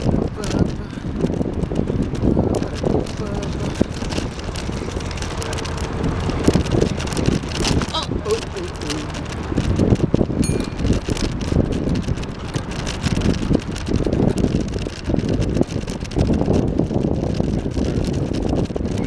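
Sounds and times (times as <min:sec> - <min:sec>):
bicycle rumble: 0:00.0 - 0:19.0
wind buffeting microphone: 0:00.0 - 0:19.0.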